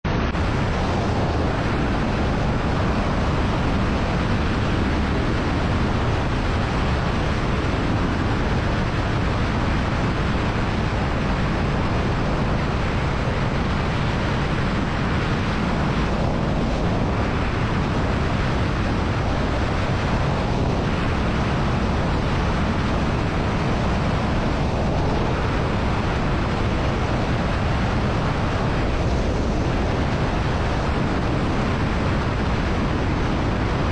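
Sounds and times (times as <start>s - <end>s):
wind rushing over microphone: 0.0s - 33.9s
road noise: 0.1s - 33.9s.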